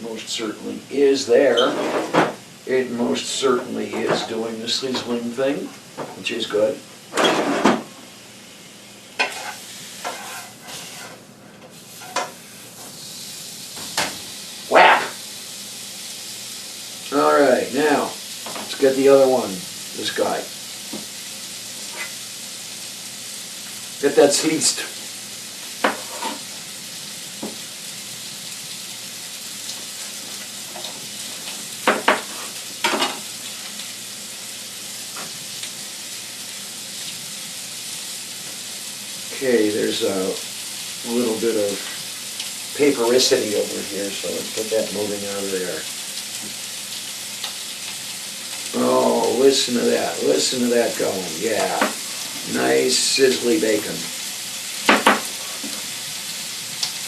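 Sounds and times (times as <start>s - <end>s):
liver sizzling in a pan: 0.0s - 57.0s.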